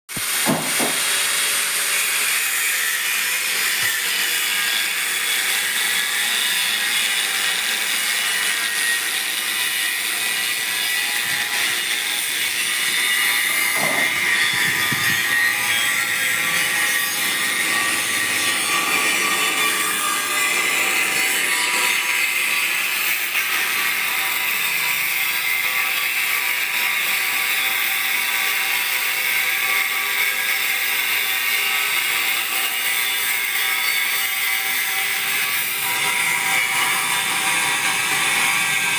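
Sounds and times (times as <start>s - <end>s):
milling machine cutting metal: 0.1s - 38.9s.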